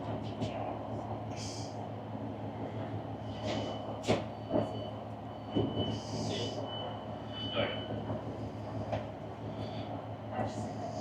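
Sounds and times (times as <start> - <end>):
train engine hum: 0.0 - 11.0.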